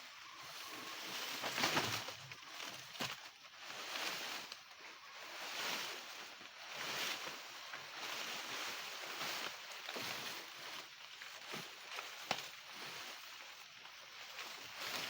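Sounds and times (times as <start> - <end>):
dry stalks rustling and crackling: 0.0 - 15.0.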